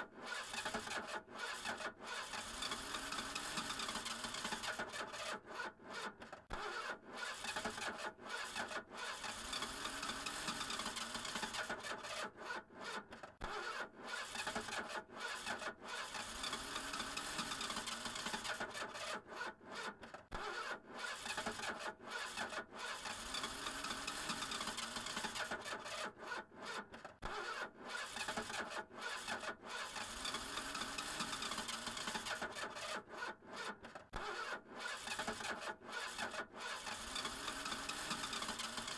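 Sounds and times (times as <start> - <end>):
starter motor cranking engine: 0.0 - 38.9.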